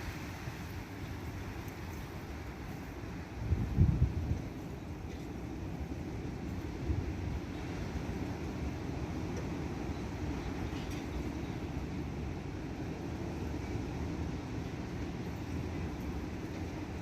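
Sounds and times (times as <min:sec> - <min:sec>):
strong wind blowing: 0:03.0 - 0:17.0.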